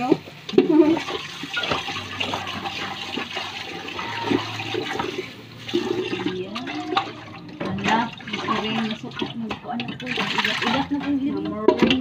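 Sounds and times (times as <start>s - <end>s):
tap water splashing into metal pot: 0.4s - 10.9s.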